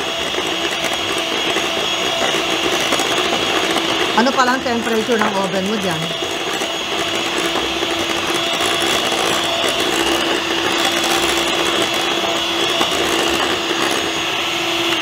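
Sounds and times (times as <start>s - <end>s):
electric hand mixer whirring: 0.0s - 15.0s.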